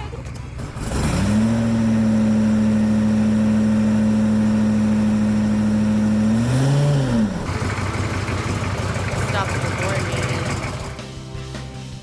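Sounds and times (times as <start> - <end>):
diesel engine running at raised revs: 0.0 - 11.2.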